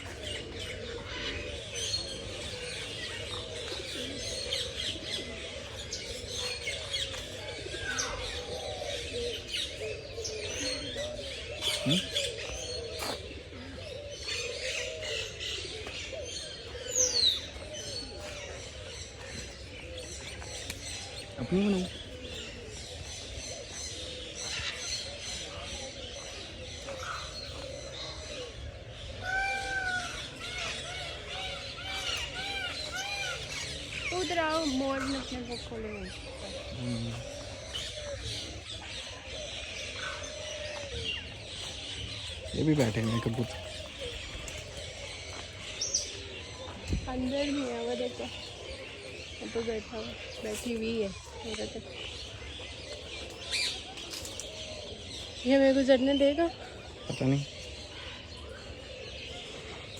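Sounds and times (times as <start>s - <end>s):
birds chirping: 0.0s - 59.9s
pigeons cooing: 0.0s - 59.9s.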